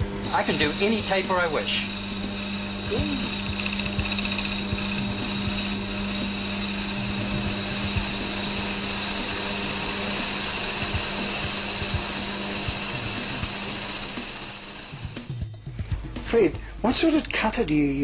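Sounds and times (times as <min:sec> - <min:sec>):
lathe motor humming: 0:00.0 - 0:15.5.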